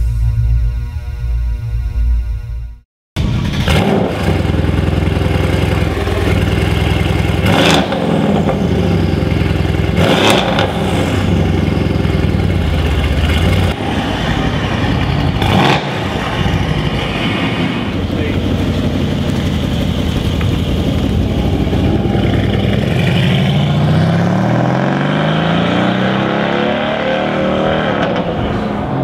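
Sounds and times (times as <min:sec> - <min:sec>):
car engine idling and revving: 0:03.2 - 0:29.0.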